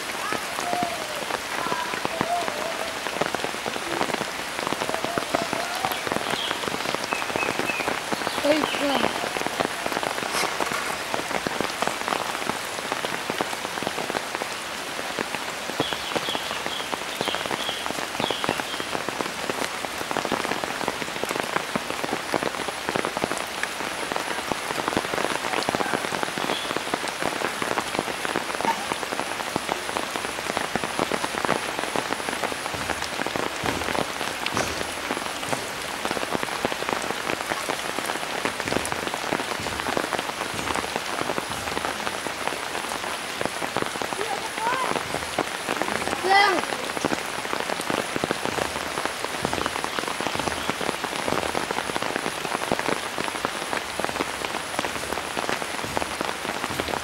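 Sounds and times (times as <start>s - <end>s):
heavy rain on water: 0.0s - 57.0s.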